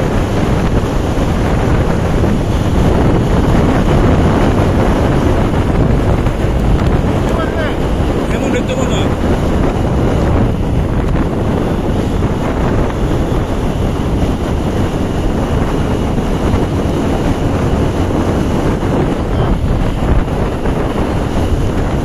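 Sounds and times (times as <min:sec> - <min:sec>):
road rush: 0:00.0 - 0:22.0
wind buffeting microphone: 0:00.0 - 0:22.0.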